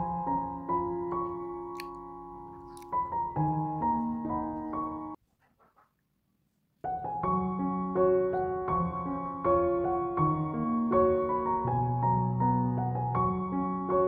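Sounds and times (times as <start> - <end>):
gentle piano music: 0.0 - 5.2, 6.8 - 14.0.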